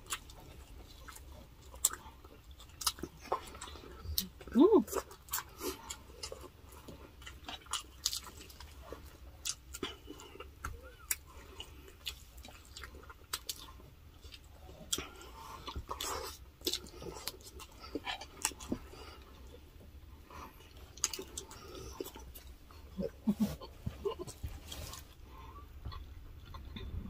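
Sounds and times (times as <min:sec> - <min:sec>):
people chewing food: 0:00.0 - 0:27.0.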